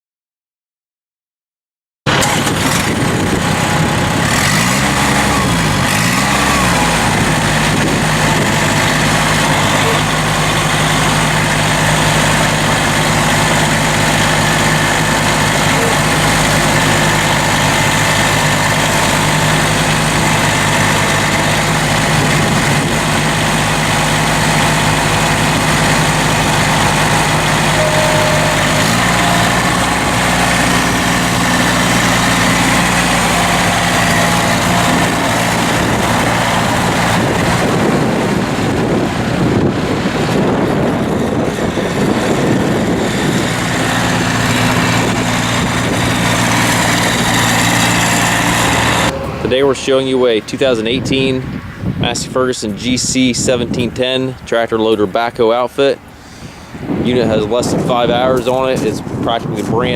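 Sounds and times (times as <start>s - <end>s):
tractor diesel engine idling: 2.1s - 59.9s.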